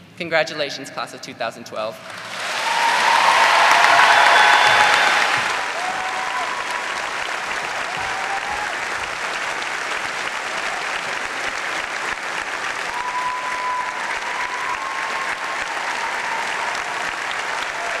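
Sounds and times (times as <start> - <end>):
audience applauding: 2.0 - 18.0.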